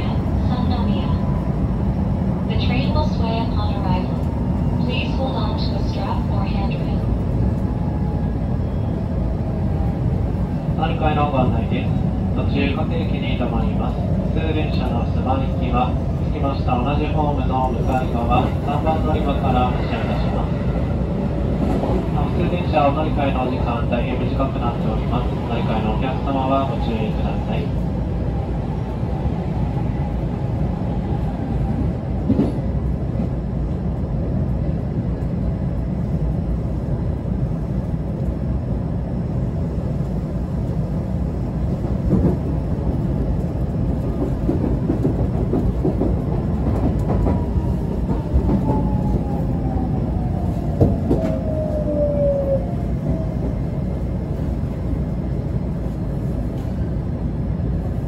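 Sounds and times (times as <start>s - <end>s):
train interior rumble: 0.0s - 58.0s.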